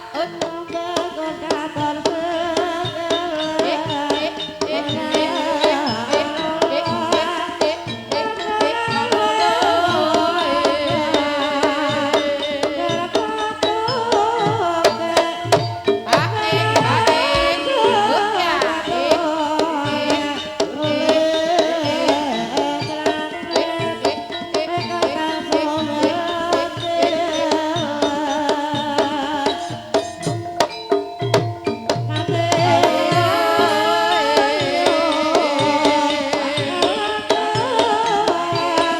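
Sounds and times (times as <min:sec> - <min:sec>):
hand drums: 0:00.0 - 0:38.9
ringing tuned percussion: 0:00.0 - 0:38.9
wavering melody line: 0:03.3 - 0:38.9.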